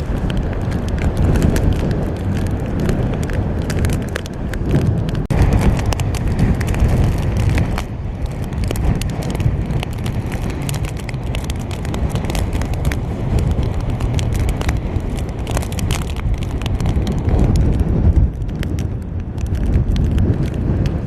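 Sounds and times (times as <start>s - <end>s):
rain ticking on plastic case: 0.0s - 21.0s
wind buffeting microphone: 0.0s - 21.0s.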